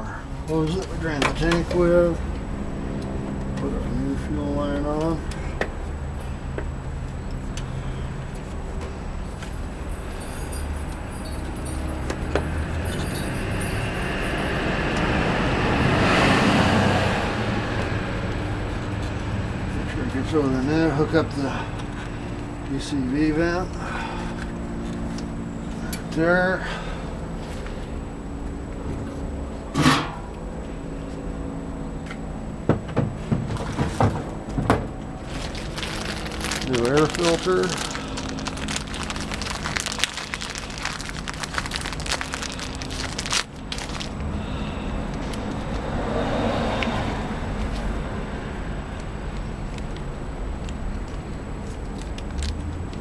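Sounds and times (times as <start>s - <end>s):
road vehicle passing: 0.0s - 53.0s.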